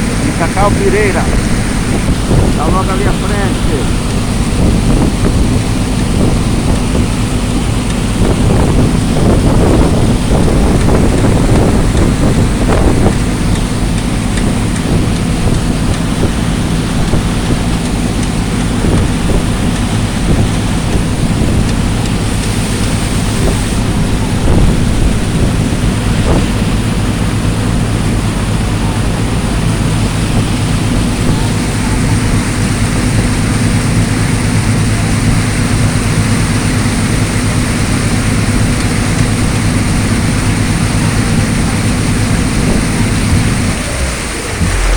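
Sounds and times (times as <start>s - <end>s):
boat engine running: 0.0s - 44.9s
wind buffeting microphone: 0.0s - 44.9s.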